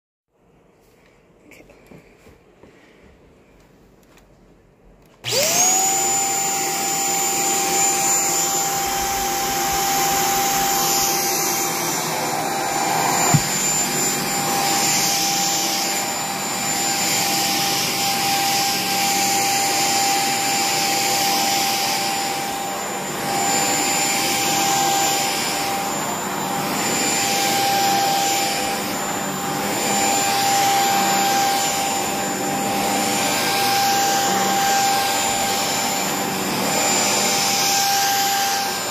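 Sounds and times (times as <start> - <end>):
stick vacuum whining: 5.2 - 38.9.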